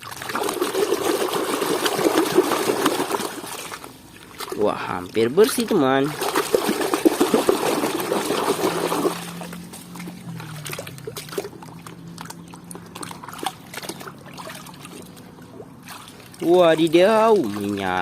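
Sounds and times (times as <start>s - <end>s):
water trickling: 0.0s - 18.0s
water drips: 2.9s - 18.0s.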